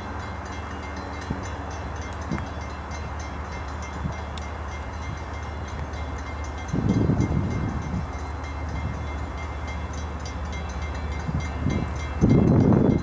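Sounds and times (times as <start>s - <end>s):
distant train rumbling: 0.0s - 13.0s.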